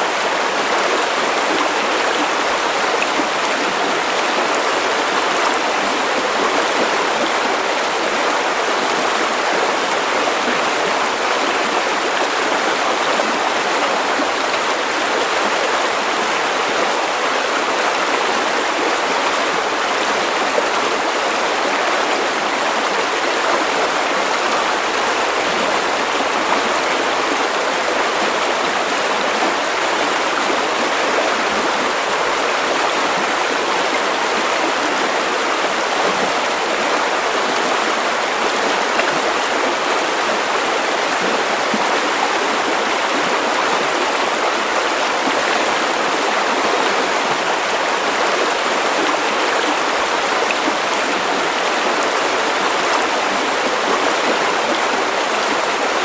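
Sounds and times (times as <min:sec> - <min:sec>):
river water over stones: 0:00.0 - 0:56.0.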